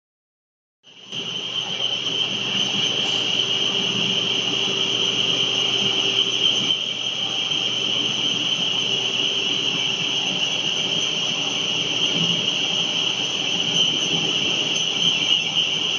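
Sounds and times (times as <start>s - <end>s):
machine high-pitched whine: 0.9s - 15.9s
machine low hum: 0.9s - 15.9s.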